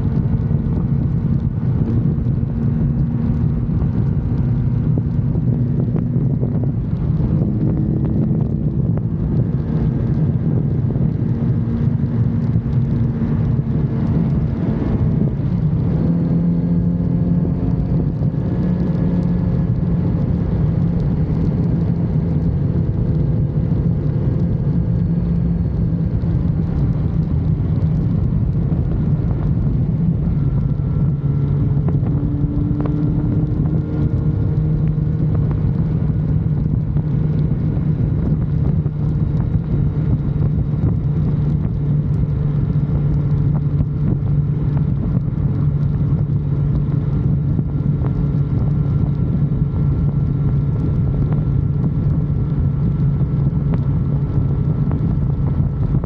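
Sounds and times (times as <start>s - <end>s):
motorcycle engine: 0.0s - 56.0s
wind on microphone: 0.0s - 56.0s.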